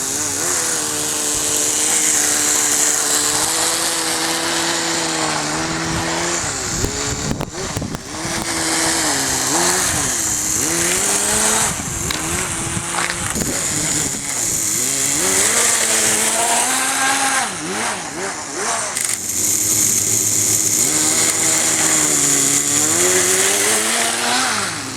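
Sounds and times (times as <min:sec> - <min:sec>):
small model engine revving: 0:00.0 - 0:24.9.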